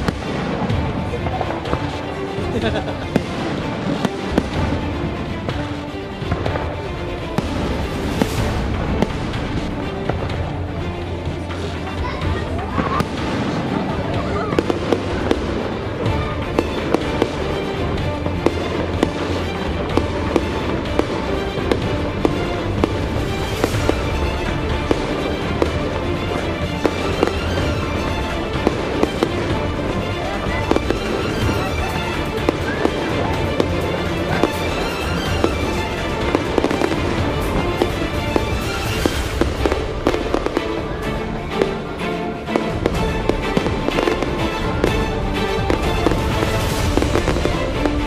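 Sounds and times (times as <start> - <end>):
fireworks bursting and crackling: 0.0 - 48.0
loud background music: 0.0 - 48.0.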